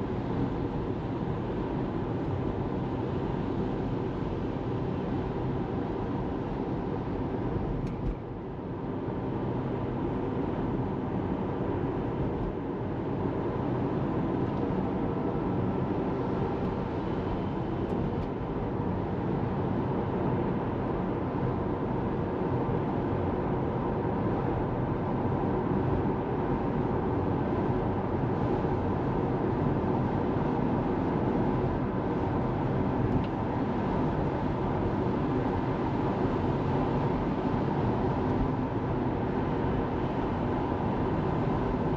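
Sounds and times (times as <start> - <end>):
road and tyre noise in car: 0.0 - 41.9.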